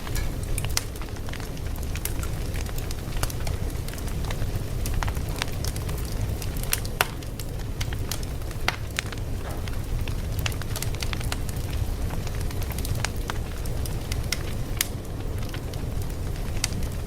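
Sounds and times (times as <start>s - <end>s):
fire pops and snaps: 0.0s - 17.0s
low rumble of flames: 0.0s - 17.0s.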